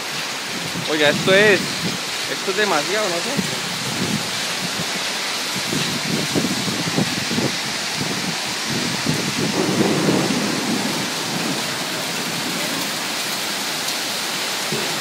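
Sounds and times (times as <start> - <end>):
hail and rain pounding pavement: 0.0 - 15.0.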